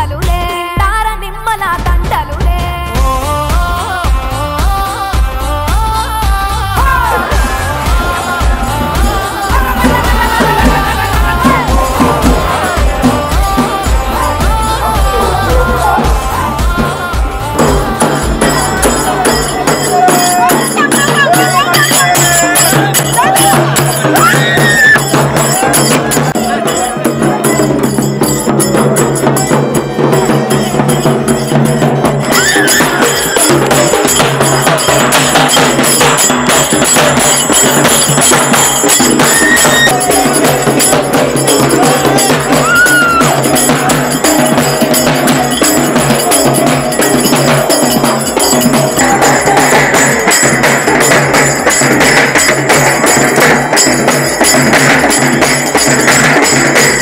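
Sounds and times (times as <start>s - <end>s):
fast dense drumming: 0.0s - 57.0s
festive folk music: 0.0s - 57.0s.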